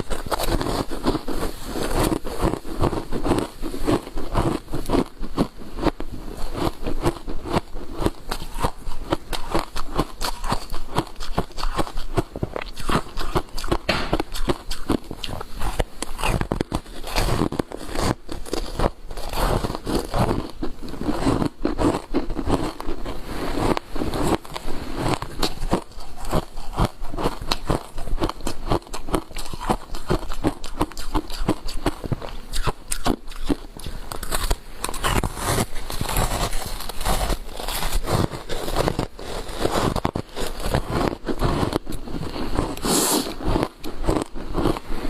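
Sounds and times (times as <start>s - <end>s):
ice being chewed: 0.0s - 45.0s.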